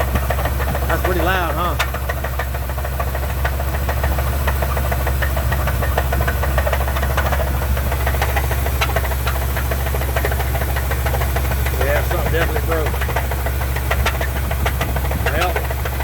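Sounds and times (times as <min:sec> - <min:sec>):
truck engine with rapid knocking: 0:00.0 - 0:16.0.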